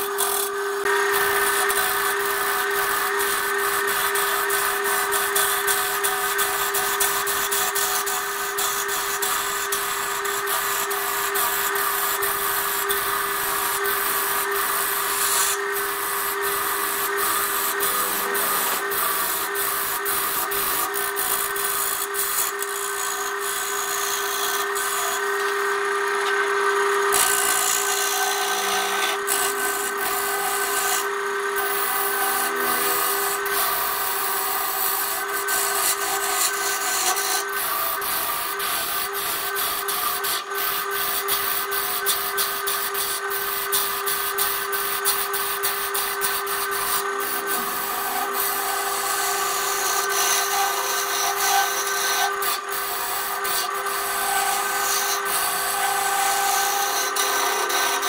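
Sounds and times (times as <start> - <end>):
gouge scraping spinning wood: 0.0 - 58.0
lathe motor hum: 0.0 - 58.0.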